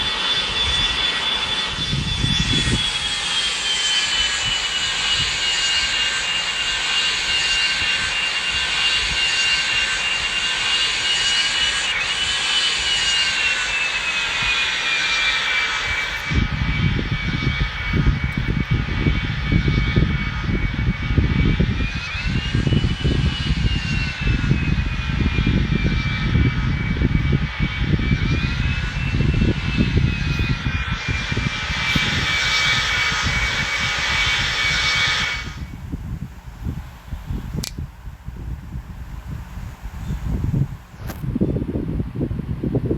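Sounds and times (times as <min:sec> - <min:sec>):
heavy low rumble: 0:00.0 - 0:09.2, 0:15.6 - 0:42.9
jet engines whining: 0:00.0 - 0:42.9.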